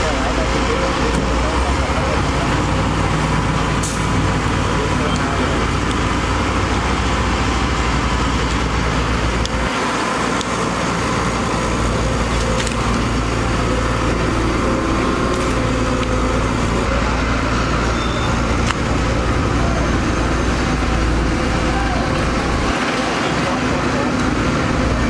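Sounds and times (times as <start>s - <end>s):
excavator diesel engine: 0.0s - 25.0s.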